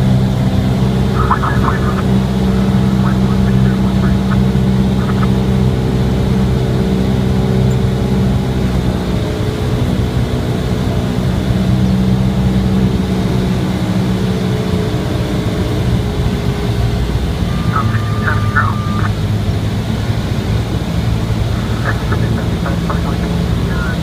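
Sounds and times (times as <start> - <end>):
aircraft engine and propeller drone: 0.0 - 24.0.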